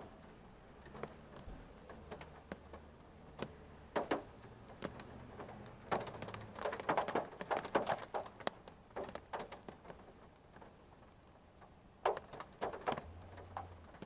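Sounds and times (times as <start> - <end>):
raindrops tapping on car roof: 0.0 - 14.0.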